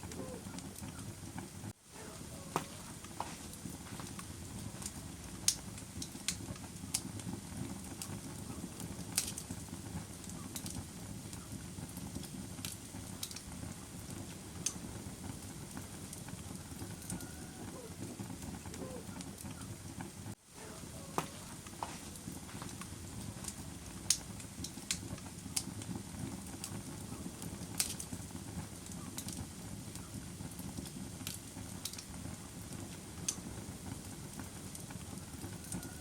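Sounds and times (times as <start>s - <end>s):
fire crackling and popping: 0.0s - 36.0s
low rushing fire noise: 0.0s - 36.0s.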